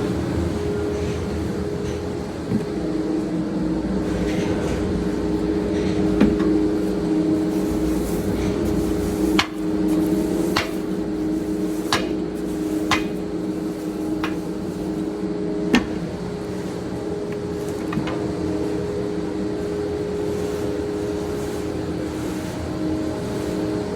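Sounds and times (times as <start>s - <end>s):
baler machine humming: 0.0s - 23.9s.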